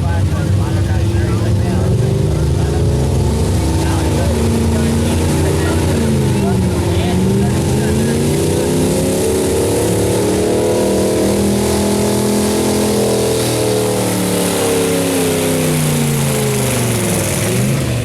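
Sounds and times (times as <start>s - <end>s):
truck engine revving under load: 0.0s - 18.0s.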